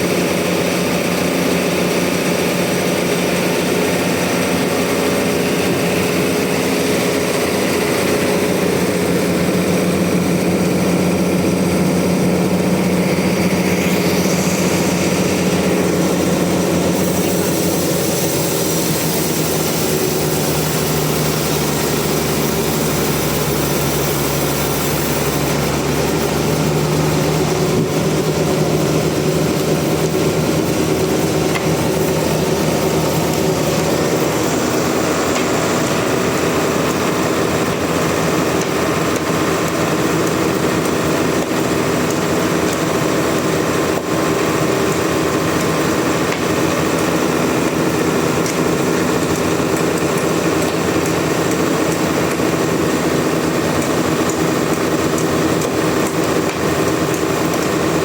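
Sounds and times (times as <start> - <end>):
sawmill machinery motor hum: 0.0 - 58.0.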